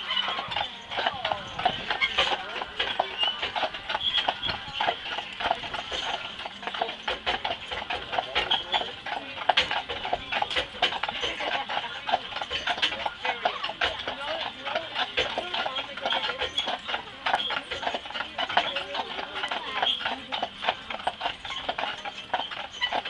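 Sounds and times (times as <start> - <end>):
horse hooves clip-clopping on pavement: 0.0 - 23.0.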